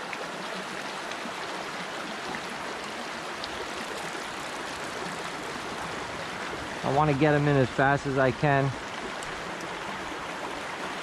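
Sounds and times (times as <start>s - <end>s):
brook water rushing: 0.0s - 11.0s.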